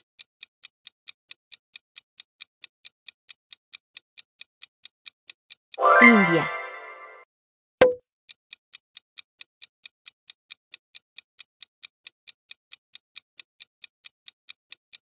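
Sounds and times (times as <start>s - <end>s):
clock ticking: 0.0s - 5.8s, 8.7s - 15.0s.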